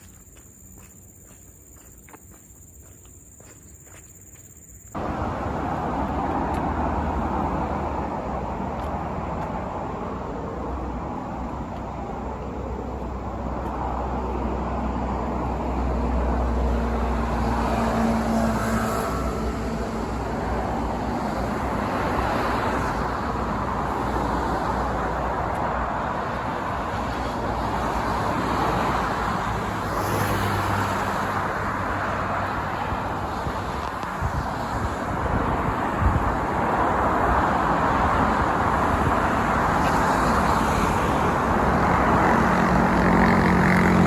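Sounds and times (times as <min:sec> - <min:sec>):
cars passing: 0:04.9 - 0:44.0.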